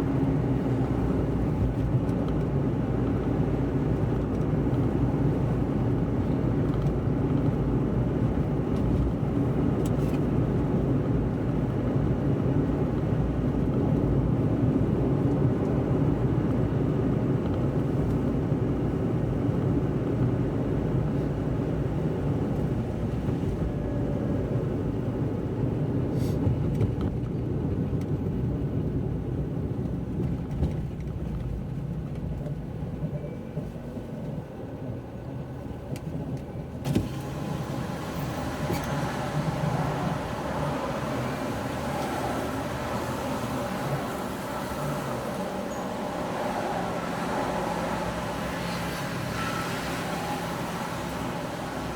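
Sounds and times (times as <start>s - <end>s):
car tyres on wet road: 0.0s - 51.9s.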